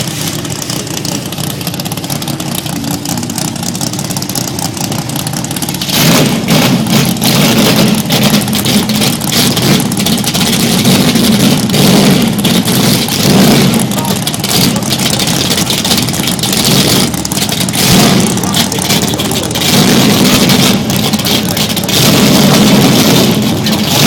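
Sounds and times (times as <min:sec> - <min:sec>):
car engine idling choppily: 0:00.0 - 0:24.0.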